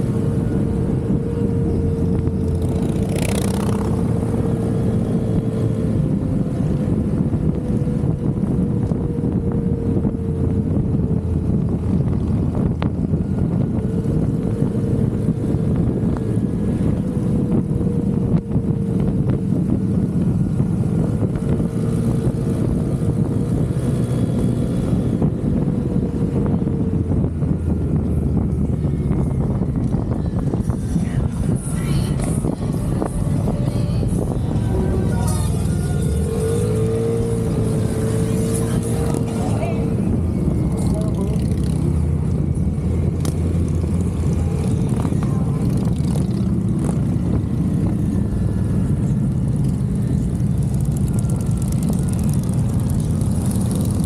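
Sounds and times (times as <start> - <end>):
motorcycle engine drone: 0.0 - 54.0
wind and road noise: 0.0 - 54.0.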